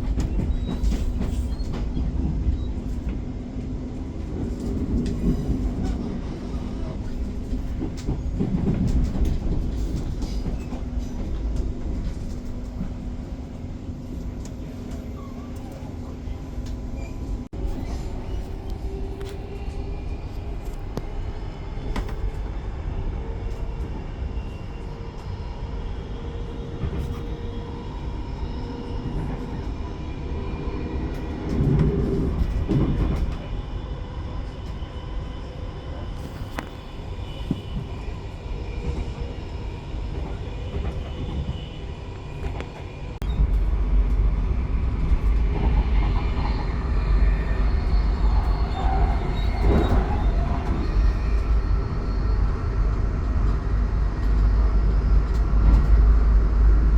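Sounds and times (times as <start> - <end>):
faint train squeals: 0.0 - 3.2, 4.5 - 43.9, 44.9 - 56.1
train rumbling on track: 0.0 - 56.9.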